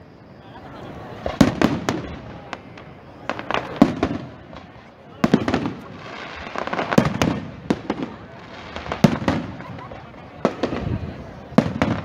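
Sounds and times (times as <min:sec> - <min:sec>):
firework crackling: 0:00.0 - 0:12.0
firework bangs: 0:00.9 - 0:12.0.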